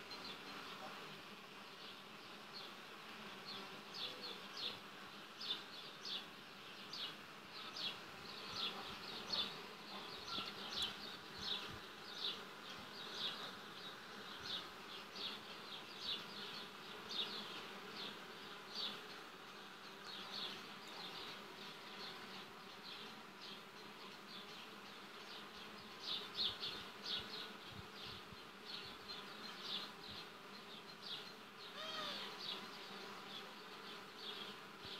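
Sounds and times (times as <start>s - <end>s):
bees buzzing: 0.0s - 34.9s.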